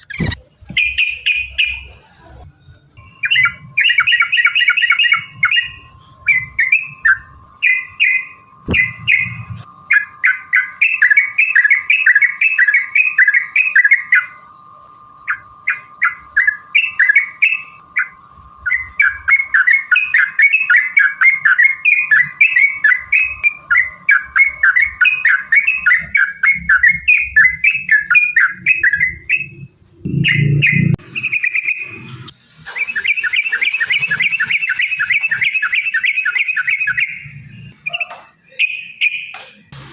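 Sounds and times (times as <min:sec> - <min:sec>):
bulbul chattering song: 0:00.0 - 0:39.7.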